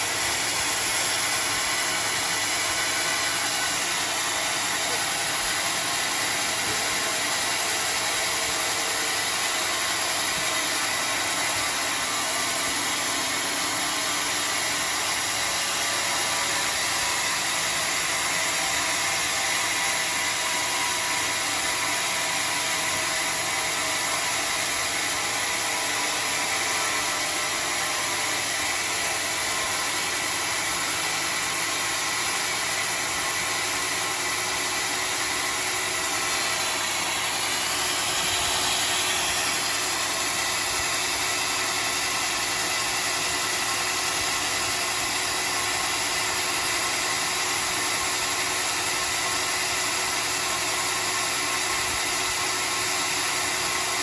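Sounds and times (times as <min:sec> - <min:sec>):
sawmill running: 0:00.0 - 0:54.0.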